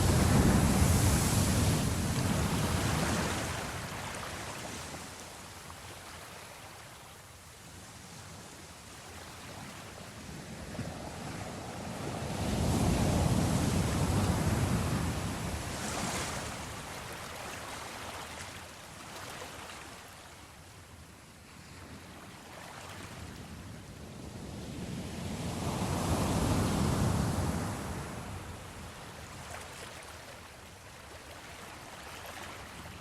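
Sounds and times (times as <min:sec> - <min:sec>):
ocean waves washing ashore: 0:00.0 - 0:33.0.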